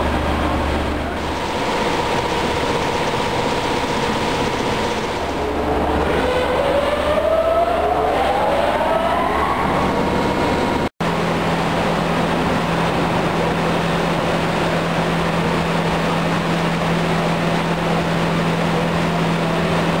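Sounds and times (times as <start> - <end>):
industrial washer running: 0.0 - 20.0.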